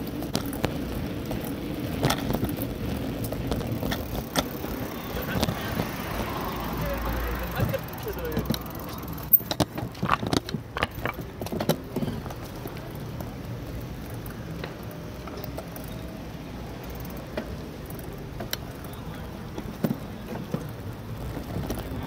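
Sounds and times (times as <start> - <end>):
bicycle clicks: 0.0 - 22.0
bicycle knocks and rattles: 0.0 - 22.0
bicycle ride rumble: 0.0 - 22.0.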